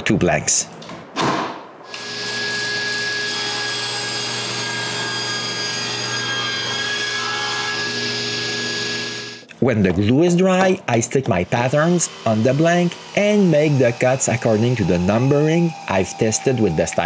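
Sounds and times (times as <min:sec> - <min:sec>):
table saw cutting wood: 0:01.8 - 0:09.5, 0:10.5 - 0:17.0.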